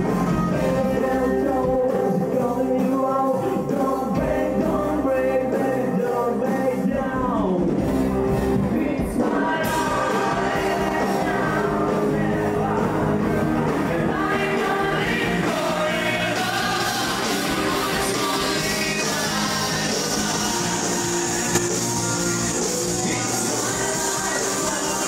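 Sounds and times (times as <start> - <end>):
live band playing: 0.0 - 25.0
man singing into microphone: 0.4 - 7.8, 8.6 - 25.0.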